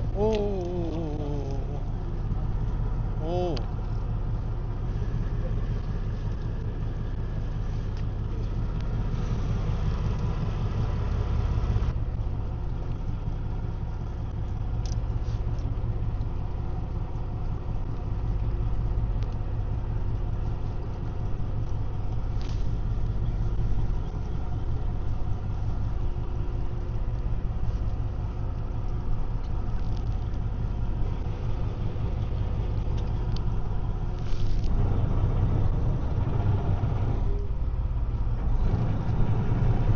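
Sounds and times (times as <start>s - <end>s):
boat engine rumbling: 0.0s - 39.9s.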